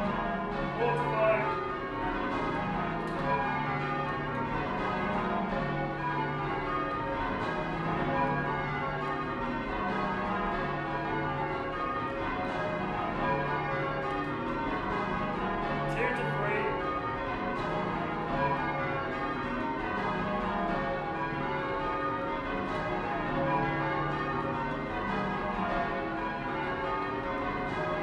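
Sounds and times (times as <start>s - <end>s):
church bells ringing: 0.0s - 28.0s.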